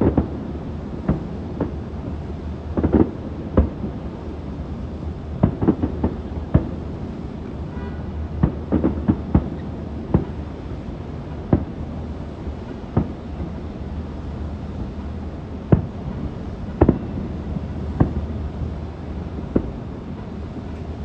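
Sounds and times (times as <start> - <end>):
distant fireworks booming: 0.0 - 4.4, 5.3 - 13.7, 15.6 - 21.0.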